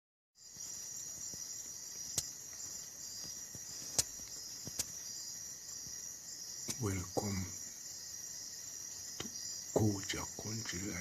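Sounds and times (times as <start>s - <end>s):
night insects chorus: 0.4s - 11.0s.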